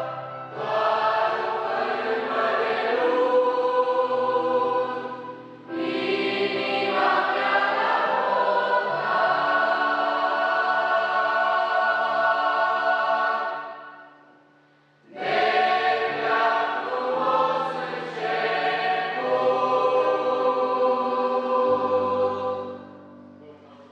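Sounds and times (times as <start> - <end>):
choir singing sustained chords: 0.0 - 23.9.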